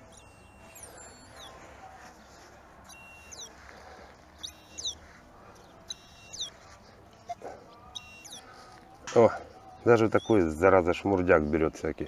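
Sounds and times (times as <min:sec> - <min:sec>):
small bird chirping: 0:00.0 - 0:03.7, 0:04.3 - 0:08.7, 0:09.6 - 0:12.0.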